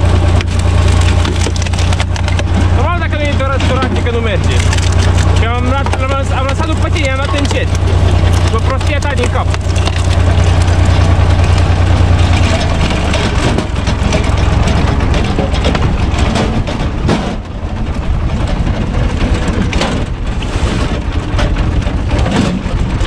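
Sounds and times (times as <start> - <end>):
log cracking and knocking: 0.0 - 23.0
tractor diesel engine running: 0.0 - 23.0.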